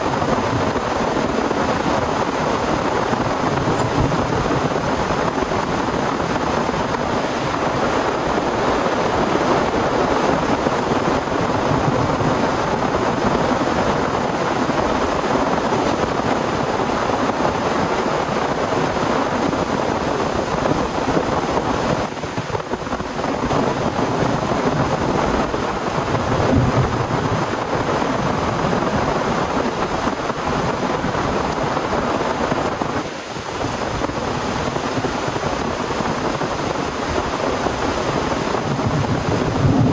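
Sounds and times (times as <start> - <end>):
heavy rain in windstorm: 0.0 - 39.9.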